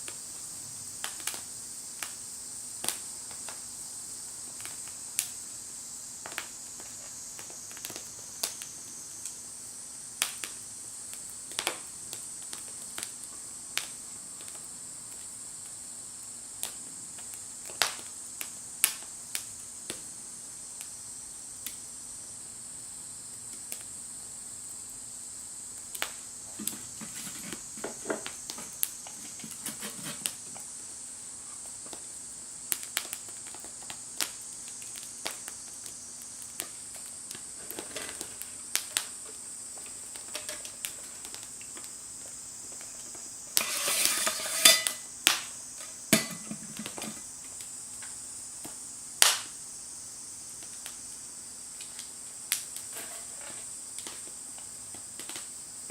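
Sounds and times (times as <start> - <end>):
steady high hiss: 0.0 - 55.9
wood fire crackling: 0.0 - 55.9.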